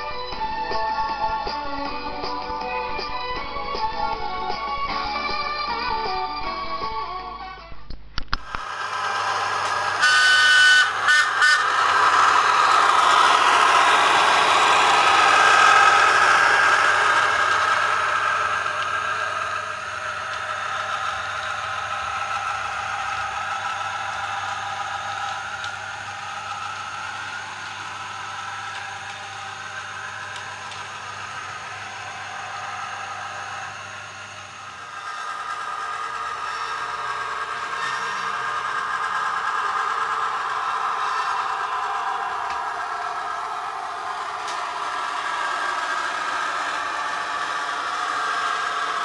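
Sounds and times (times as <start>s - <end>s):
model train motor whine: 8.4s - 49.0s.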